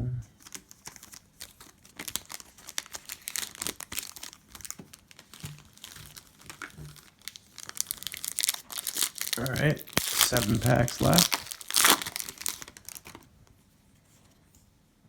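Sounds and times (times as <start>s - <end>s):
foil wrapper crinkling and tearing: 0.3s - 13.5s.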